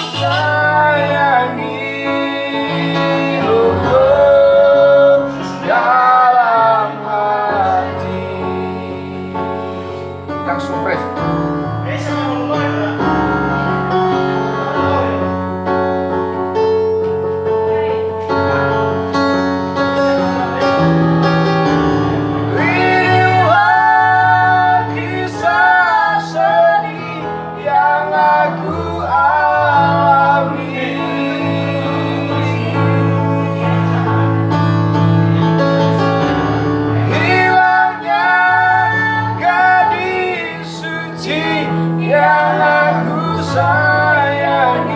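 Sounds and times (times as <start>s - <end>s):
instrumental accompaniment: 0.0s - 44.9s.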